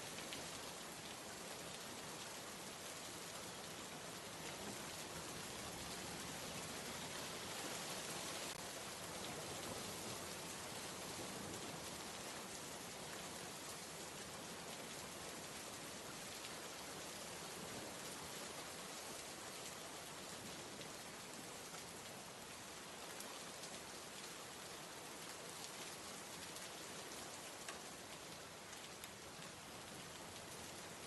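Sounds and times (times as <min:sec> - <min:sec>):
rainfall hiss: 0:00.0 - 0:31.0.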